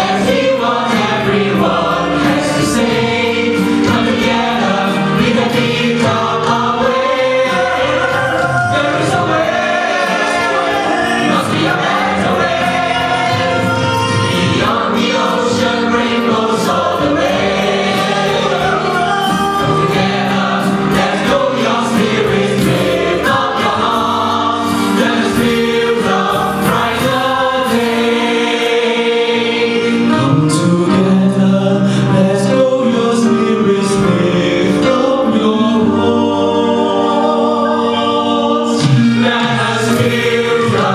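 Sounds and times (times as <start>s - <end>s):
choir singing: 0.0s - 40.9s
instrumental backing: 0.0s - 40.9s.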